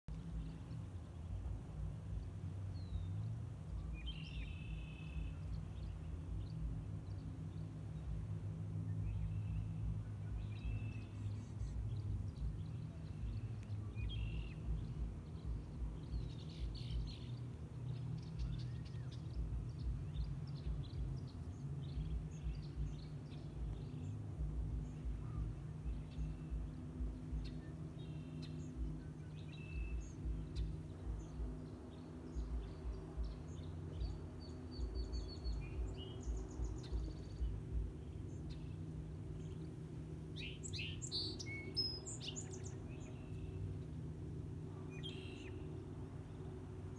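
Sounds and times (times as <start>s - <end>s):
birds calling and chirping: 0.1s - 46.9s
steady low rumble: 0.1s - 46.9s.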